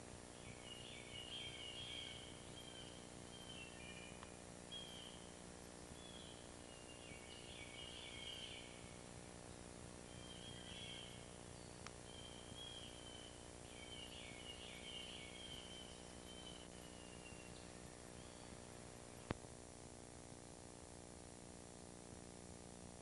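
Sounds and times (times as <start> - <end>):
faint birdsong chirps and trills: 0.0 - 19.5
low hum and hiss: 0.0 - 23.0.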